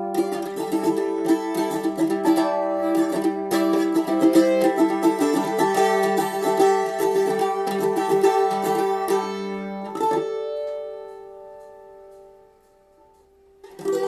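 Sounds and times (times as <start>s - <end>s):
mandolin playing picked notes: 0.0s - 14.0s.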